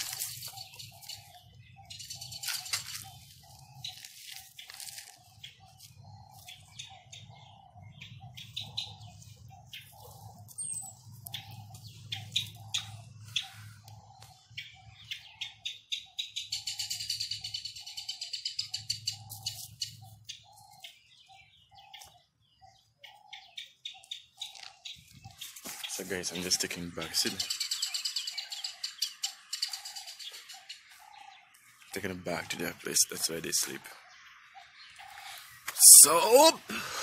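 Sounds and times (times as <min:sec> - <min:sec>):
small bird chirping: 0:00.0 - 0:35.8.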